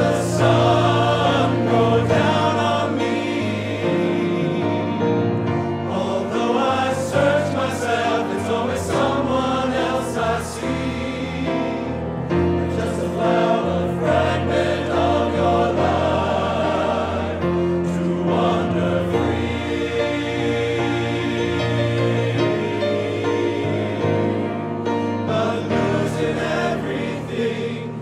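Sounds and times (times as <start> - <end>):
men's chorus singing in harmony: 0.0 - 28.0.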